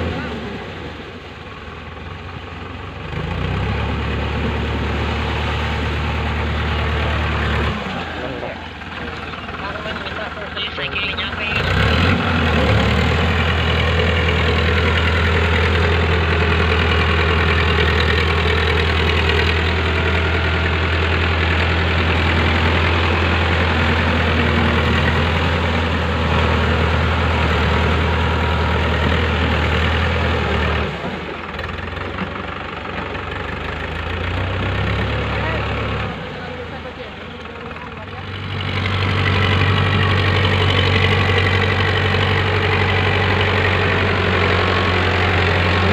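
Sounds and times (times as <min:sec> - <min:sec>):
tractor diesel engine droning: 0:00.0 - 0:45.9.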